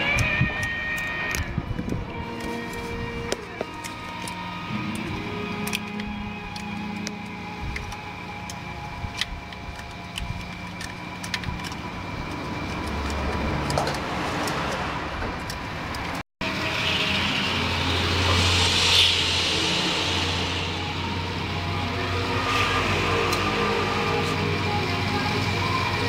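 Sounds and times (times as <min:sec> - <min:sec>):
engine running: 0:01.8 - 0:26.0.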